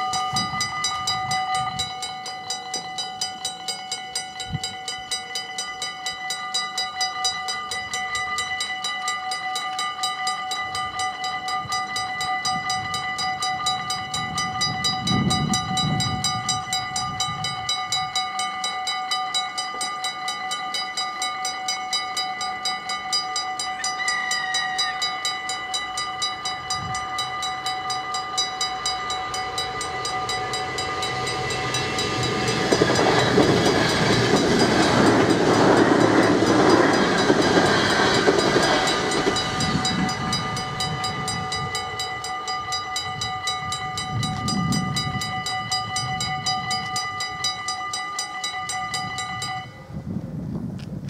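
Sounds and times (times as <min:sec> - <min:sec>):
level crossing bells ringing: 0:00.0 - 0:49.9
train passing: 0:00.0 - 0:50.8.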